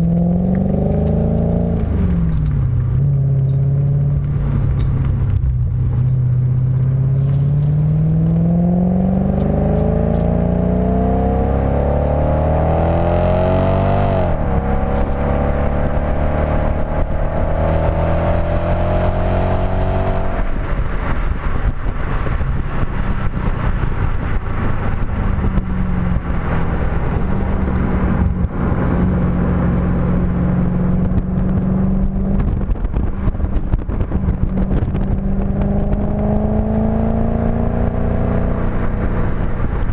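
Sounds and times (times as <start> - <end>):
crackly exhaust: 0.0 - 12.2, 20.0 - 39.9
car engine accelerating: 0.0 - 39.9.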